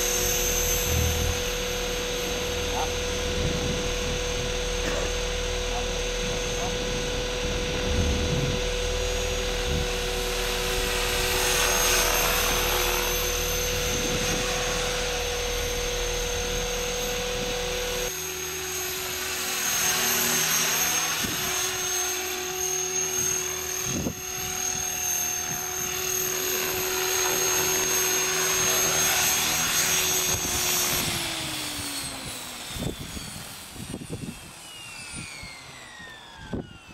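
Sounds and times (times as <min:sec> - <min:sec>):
model aircraft motors whining: 0:00.0 - 0:36.9
model helicopter flying: 0:00.0 - 0:36.9.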